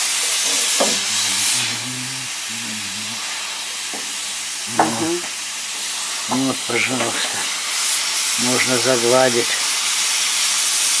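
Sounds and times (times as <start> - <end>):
hot-air gun hissing: 0.0 - 11.0.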